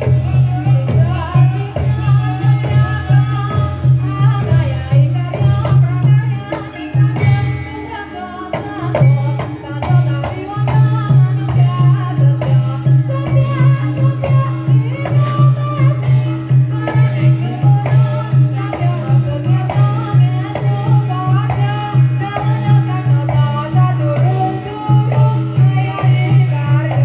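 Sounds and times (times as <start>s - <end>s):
hand drum beats: 0.0s - 27.0s.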